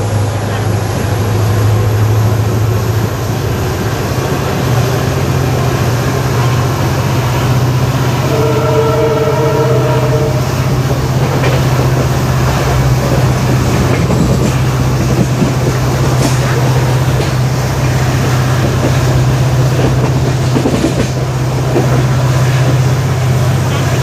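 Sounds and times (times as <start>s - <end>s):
diesel locomotive engine hum: 0.0s - 24.0s
train clattering on rails: 0.0s - 24.0s.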